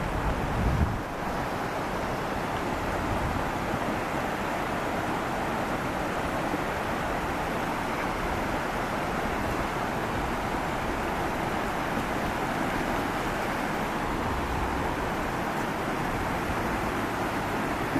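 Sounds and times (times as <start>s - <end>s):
stream rushing over stones: 0.0s - 17.9s.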